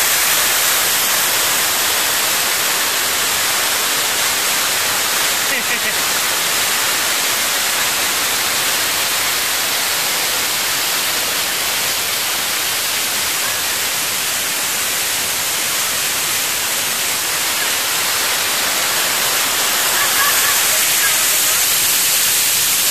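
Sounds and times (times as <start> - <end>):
waterfall rushing over rocks: 0.0 - 22.9.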